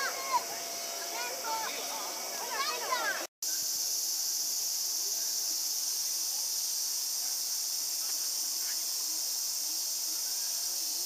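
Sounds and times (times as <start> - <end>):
faint scattered sounds: 0.0 - 11.0
high-pitched insect chorus: 0.0 - 11.0.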